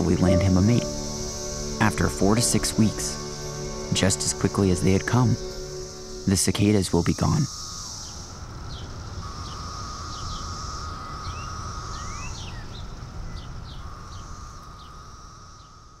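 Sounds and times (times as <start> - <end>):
cicadas singing: 0.0 - 16.0.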